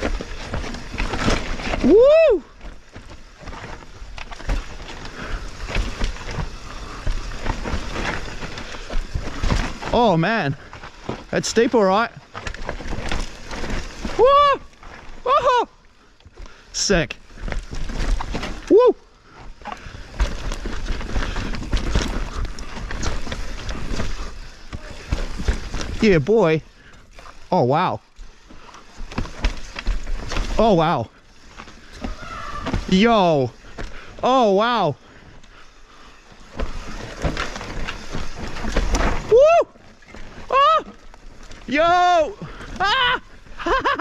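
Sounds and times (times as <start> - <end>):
bike knocking and clattering: 0.0 - 1.9, 2.6 - 15.6, 17.3 - 34.4, 35.5 - 44.0
bike tyres scrubbing over dirt: 0.0 - 44.0.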